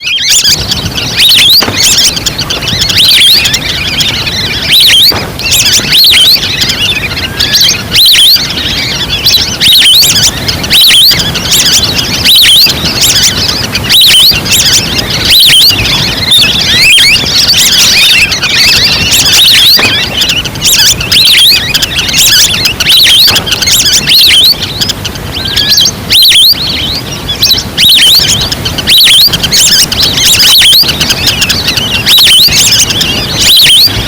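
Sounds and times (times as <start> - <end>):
recorded duck calls: 0.0 - 34.0.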